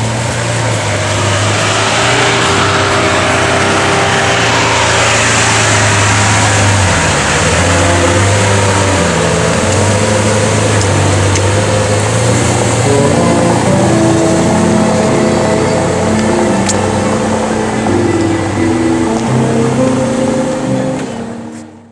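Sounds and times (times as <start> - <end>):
car engine running: 0.0 - 21.9
road noise: 0.0 - 21.9.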